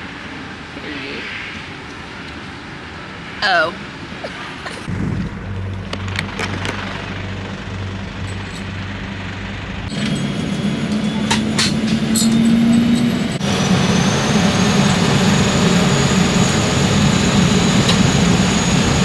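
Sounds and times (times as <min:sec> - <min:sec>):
aircraft engines running: 0:00.0 - 0:19.0.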